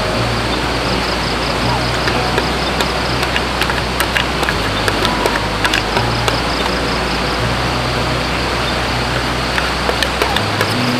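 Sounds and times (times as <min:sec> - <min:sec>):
forest stream rushing: 0:00.0 - 0:10.9
sharp crackling clicks: 0:00.8 - 0:07.4, 0:08.6 - 0:10.9.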